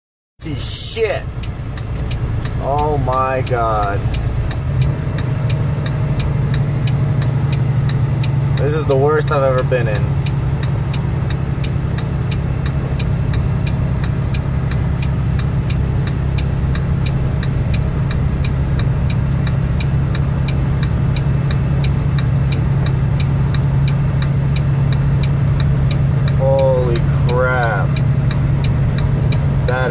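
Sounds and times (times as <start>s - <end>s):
light even ticking: 0.4s - 29.9s
truck engine droning: 0.4s - 29.9s.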